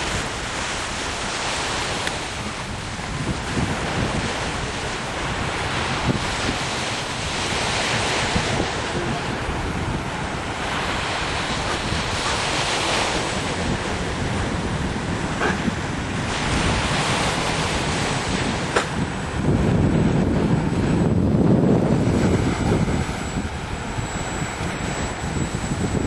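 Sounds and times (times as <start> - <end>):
sea surf washing on shore: 0.0 - 26.0
wind buffeting microphone: 0.0 - 26.0.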